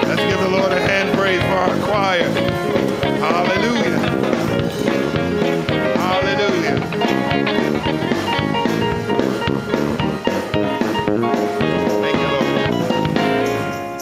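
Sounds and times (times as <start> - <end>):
gospel church band: 0.0 - 14.0
guitar runs: 0.0 - 14.0
steady drum beat: 0.0 - 14.0.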